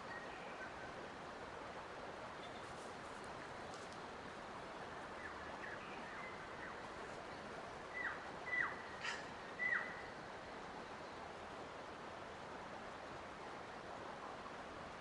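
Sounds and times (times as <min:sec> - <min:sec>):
steady hiss of water or wind: 0:00.0 - 0:15.0.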